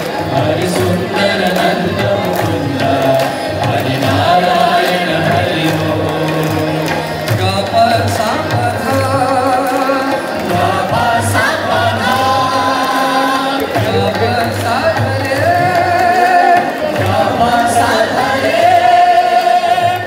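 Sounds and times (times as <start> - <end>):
percussion accompaniment: 0.0 - 20.0
voices singing devotional song: 0.0 - 20.0.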